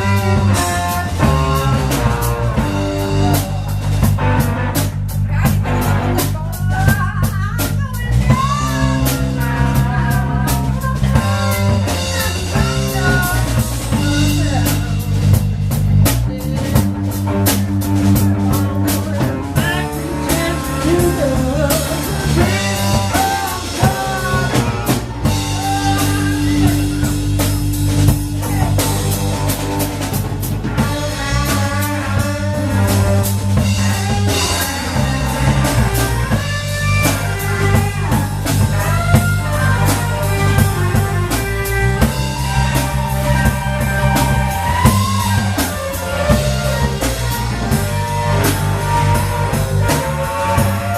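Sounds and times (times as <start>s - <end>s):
bass line: 0.0s - 50.9s
drum kit: 0.0s - 50.9s
electric guitar: 0.0s - 50.9s.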